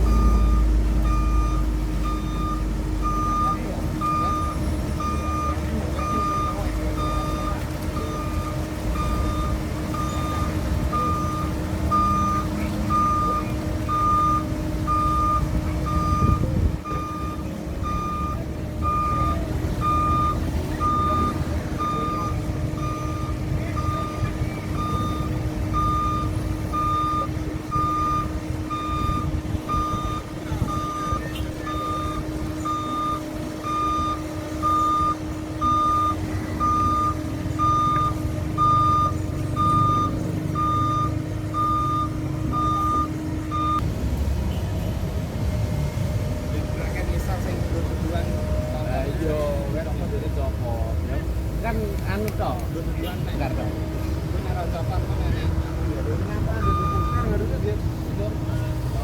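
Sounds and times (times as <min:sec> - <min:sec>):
excavator warning alarm beeping: 0:00.0 - 0:43.9, 0:55.4 - 0:58.9
diesel engine running: 0:00.0 - 0:59.0.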